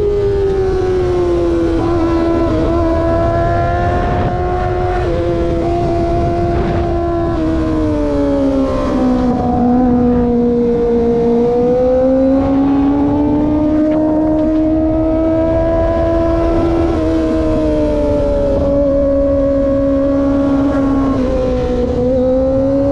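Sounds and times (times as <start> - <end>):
motorcycle engine at high revs: 0.0 - 22.9
wind noise: 0.0 - 22.9.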